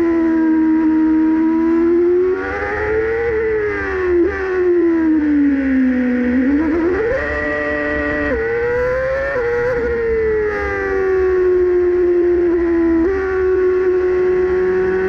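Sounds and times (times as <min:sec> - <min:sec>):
racing car engine revving: 0:00.0 - 0:15.0.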